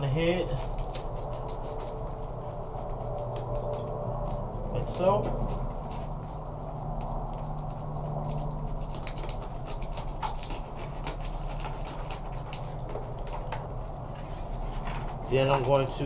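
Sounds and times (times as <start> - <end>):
steady low hum: 0.0 - 16.0
knife scraping fish scales: 0.3 - 13.4.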